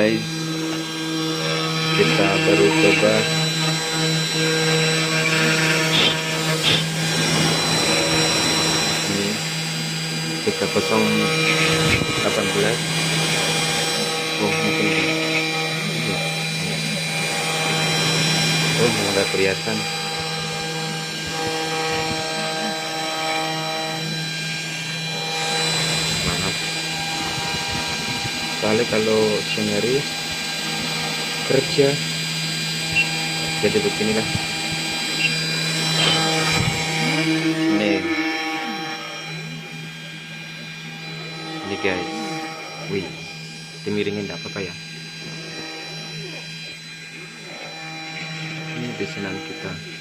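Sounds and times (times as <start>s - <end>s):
cnc router spindle whine: 0.0s - 50.0s.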